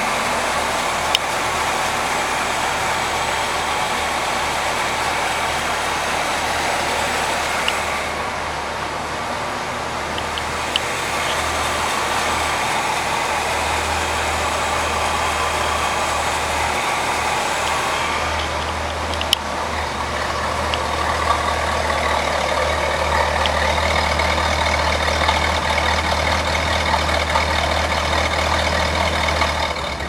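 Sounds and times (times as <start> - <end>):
faint engine ticks: 0.0 - 8.4, 9.5 - 30.0
car engine idling: 0.0 - 30.0.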